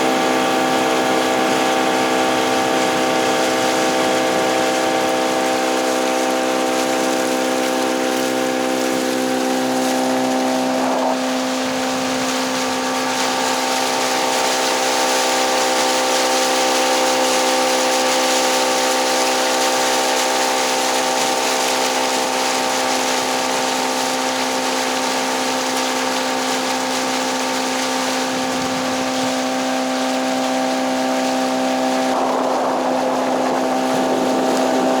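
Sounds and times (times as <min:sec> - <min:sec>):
boat motor droning: 0:00.0 - 0:35.0
rush of wind and water: 0:00.0 - 0:35.0.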